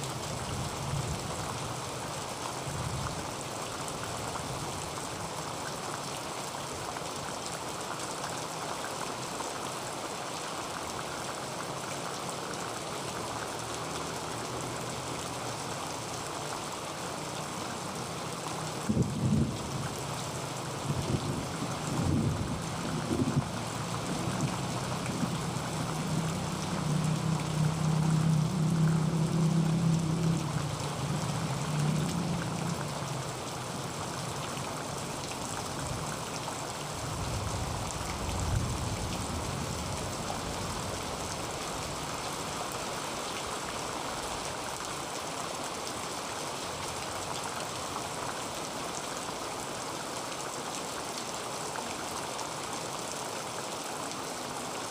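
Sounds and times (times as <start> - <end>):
heavy rain on a tin roof: 0.0 - 54.9.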